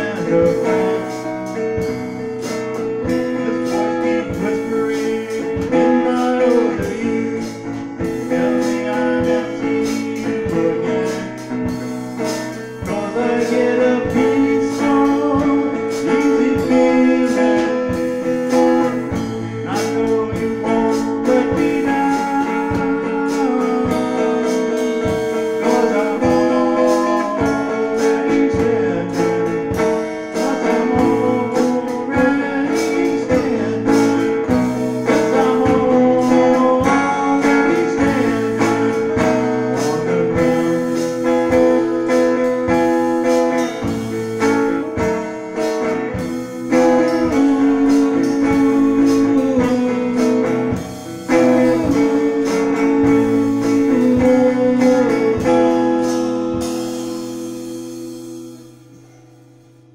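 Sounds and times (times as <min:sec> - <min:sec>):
acoustic guitar: 0:00.0 - 0:59.9
drum kit with cymbals: 0:00.0 - 0:59.9.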